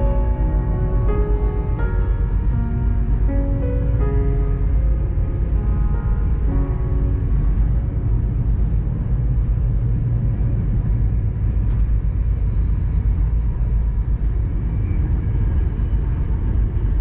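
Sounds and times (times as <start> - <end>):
passenger train rumbling on track: 0.0 - 17.0.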